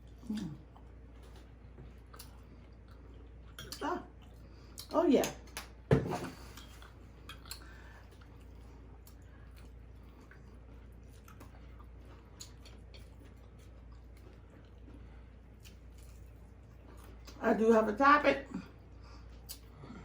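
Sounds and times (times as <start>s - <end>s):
person chewing food: 0.0s - 17.4s, 18.7s - 20.0s
low steady hum: 0.0s - 20.0s.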